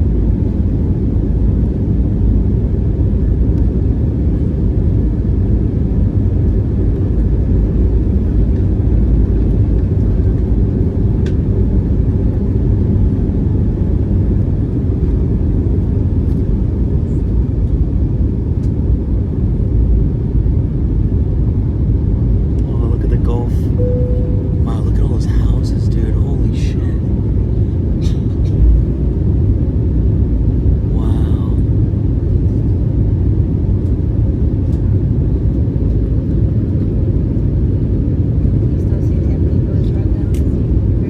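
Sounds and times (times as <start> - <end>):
airplane cabin engine rumble: 0.0 - 41.0.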